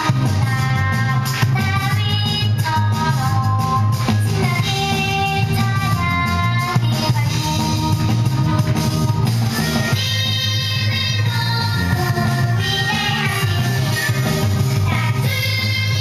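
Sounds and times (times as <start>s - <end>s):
pop song with singing: 0.0s - 16.0s.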